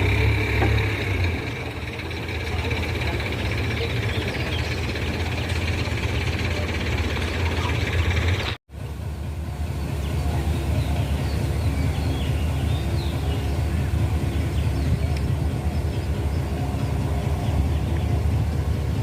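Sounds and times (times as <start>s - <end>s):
low motor rumble: 0.0s - 19.0s.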